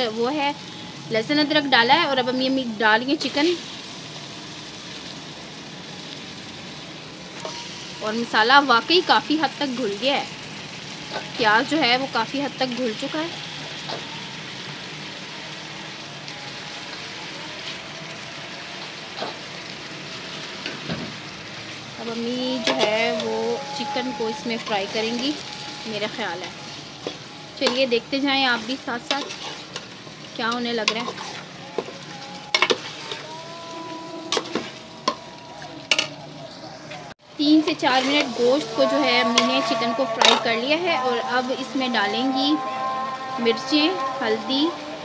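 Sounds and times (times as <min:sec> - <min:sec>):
chicken sizzling in fat: 0:00.2 - 0:42.7.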